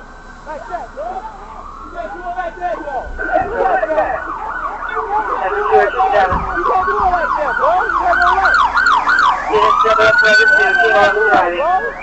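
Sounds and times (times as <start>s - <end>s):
police siren yelp: 0.0s - 12.0s.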